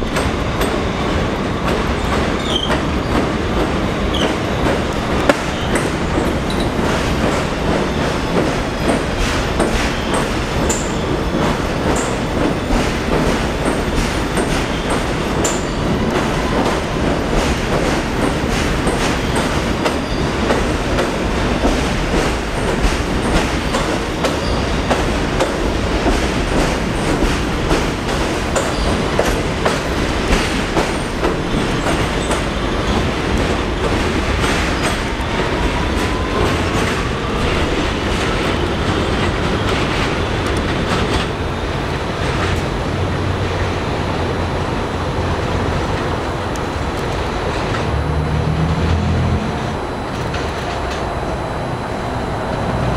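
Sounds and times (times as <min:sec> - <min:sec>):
train wheels clicking over rail joints: 0:00.0 - 0:43.8
train rumble: 0:00.0 - 0:52.9.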